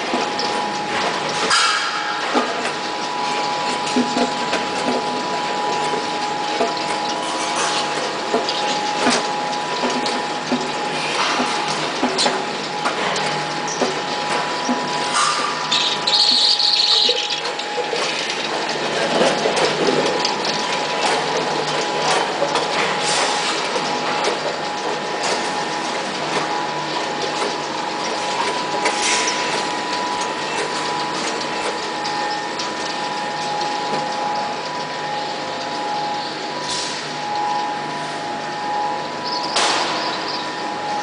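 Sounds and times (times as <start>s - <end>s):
two-note machine hum: 0.0s - 41.0s.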